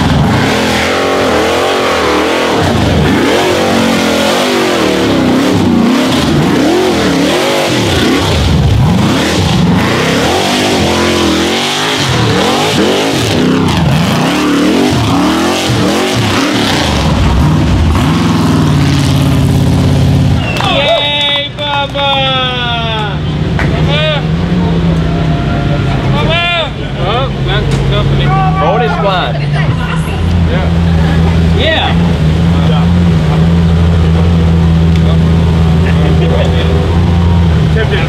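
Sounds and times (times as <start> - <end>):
buggy engine revving: 0.0 - 38.0.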